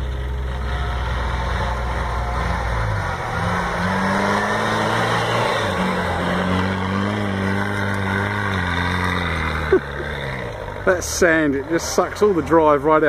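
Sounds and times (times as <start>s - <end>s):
engine working under load: 0.0s - 13.0s.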